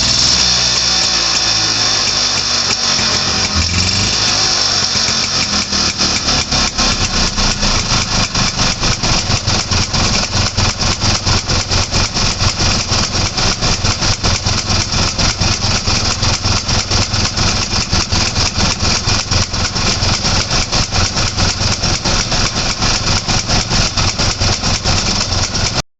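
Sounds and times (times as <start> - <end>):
two-stroke engine idling: 0.0 - 25.8.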